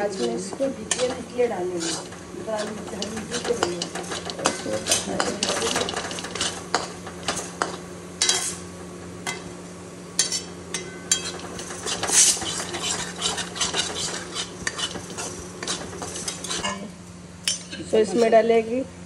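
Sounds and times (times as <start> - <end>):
metal spatula scraping a wok: 0.0 - 8.7, 10.2 - 16.8.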